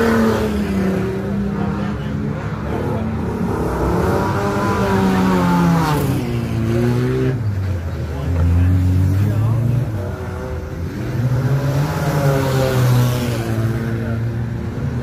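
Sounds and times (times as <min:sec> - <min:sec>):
racing engines revving: 0:00.0 - 0:15.0.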